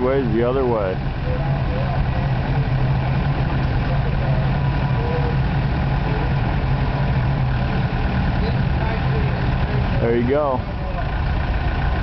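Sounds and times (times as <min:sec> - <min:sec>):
loader engine idling: 0:00.0 - 0:12.0.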